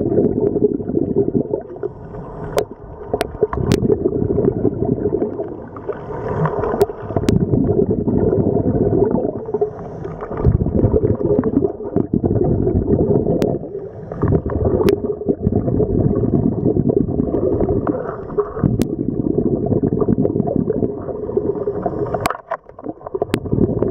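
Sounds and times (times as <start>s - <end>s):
scuba regulator bubbling underwater: 0.0s - 23.9s.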